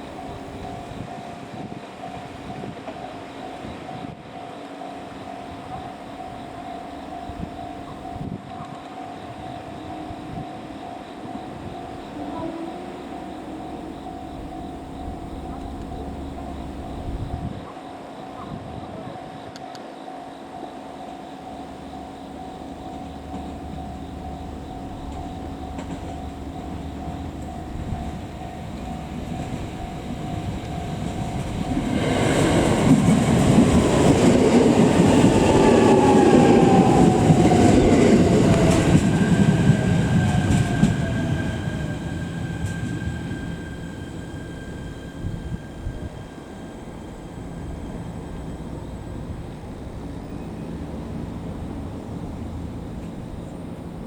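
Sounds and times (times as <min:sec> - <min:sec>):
train whine falling in pitch: 0:00.0 - 0:53.4
train wheels rumbling on rail: 0:00.0 - 0:54.0.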